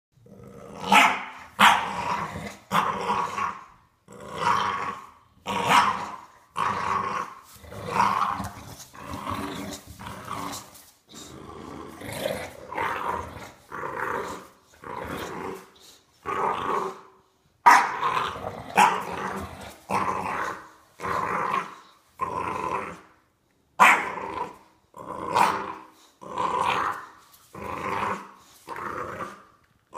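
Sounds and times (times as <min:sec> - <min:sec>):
puppy growling in play: 0:00.2 - 0:17.3, 0:17.9 - 0:29.9.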